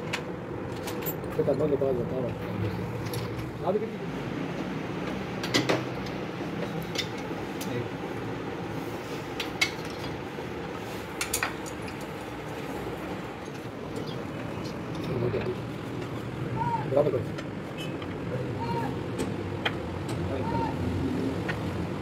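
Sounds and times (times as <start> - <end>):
workshop background: 0.0 - 22.0.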